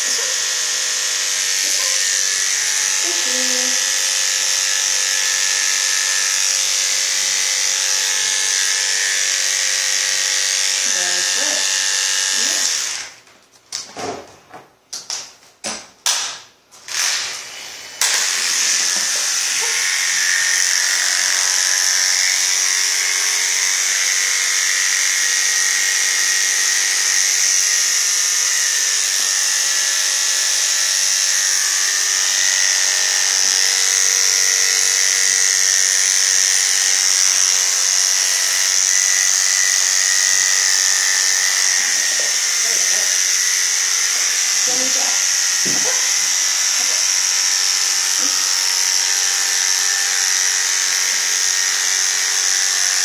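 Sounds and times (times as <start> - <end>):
electric clippers buzzing: 0.0 - 13.2, 16.1 - 53.0.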